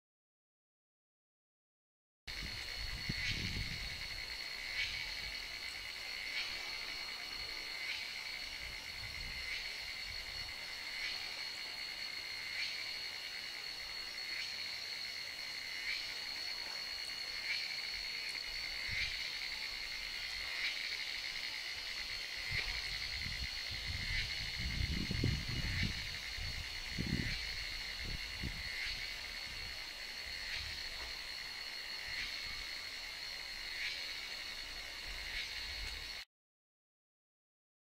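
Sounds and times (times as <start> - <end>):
insects chorus: 2.3 - 36.3.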